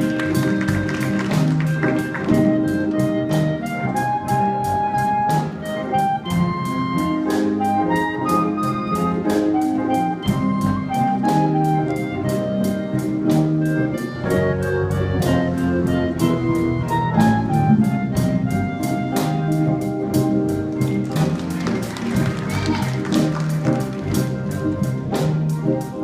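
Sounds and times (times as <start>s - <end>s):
big band playing jazz: 0.0s - 26.0s
clarinet melody: 0.0s - 26.0s.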